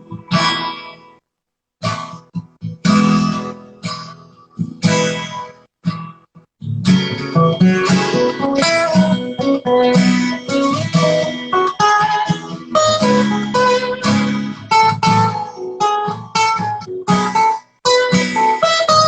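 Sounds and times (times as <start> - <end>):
acoustic guitar playing: 0.0 - 1.2, 1.8 - 19.0.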